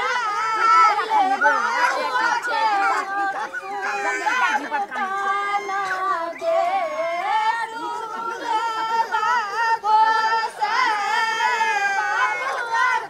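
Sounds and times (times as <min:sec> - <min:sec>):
women singing long held notes: 0:00.0 - 0:13.0.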